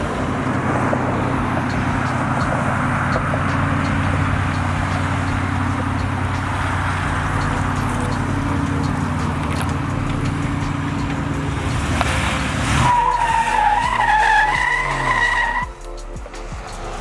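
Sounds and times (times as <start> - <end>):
tires screeching: 0.0 - 15.8
truck engine revving: 0.0 - 17.0.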